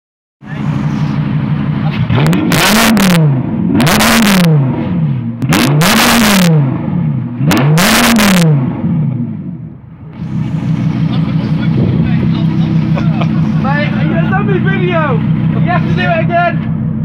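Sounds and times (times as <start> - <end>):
car engine revving: 0.4 - 17.0.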